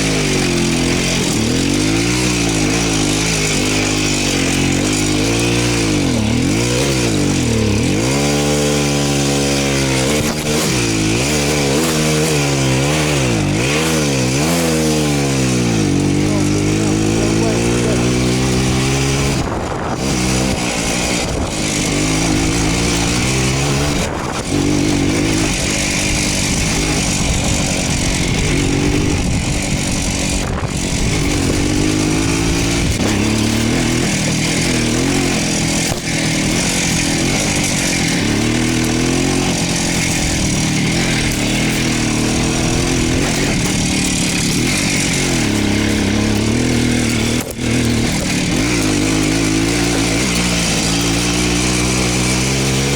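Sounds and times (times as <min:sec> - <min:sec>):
two-stroke motorcycle engine running: 0:00.0 - 0:52.9.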